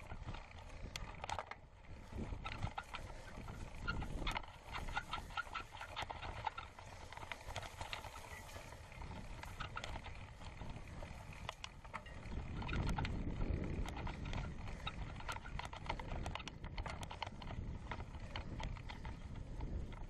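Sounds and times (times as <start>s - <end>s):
mountain bike rattling and knocking: 0.0s - 20.0s
tyre and wind rumble: 0.0s - 20.0s.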